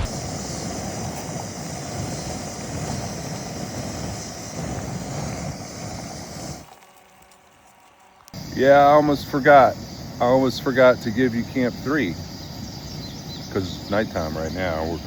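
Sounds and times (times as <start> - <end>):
wind buffeting microphone: 0.0 - 6.7, 8.4 - 15.0.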